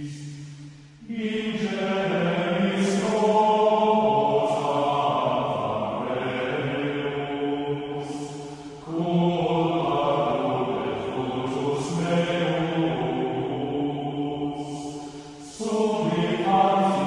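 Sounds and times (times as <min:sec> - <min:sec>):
chant-like vocal music: 0:00.0 - 0:17.0.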